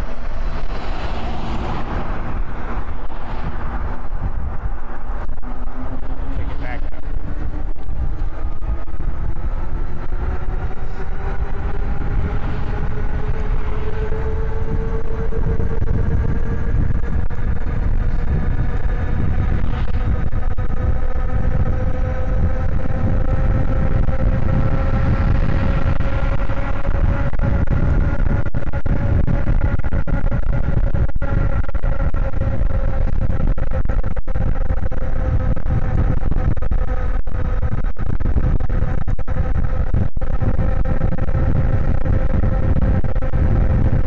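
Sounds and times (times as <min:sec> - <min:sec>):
electric motor whining: 0:00.0 - 0:44.0
wind and road noise: 0:00.0 - 0:44.0.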